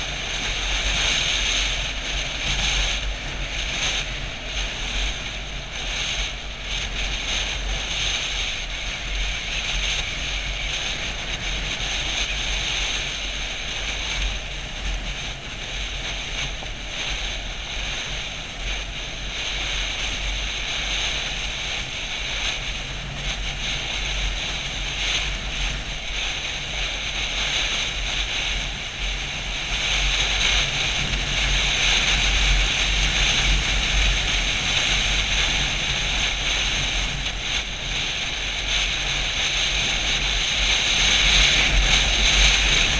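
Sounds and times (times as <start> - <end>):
low motorcycle rumble: 0.0 - 42.9
wind rushing over microphone: 0.0 - 42.9.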